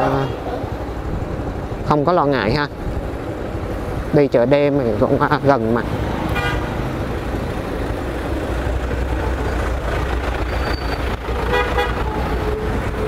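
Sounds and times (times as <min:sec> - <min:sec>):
large vehicle engine running: 0:00.0 - 0:13.0
street traffic: 0:00.0 - 0:13.0.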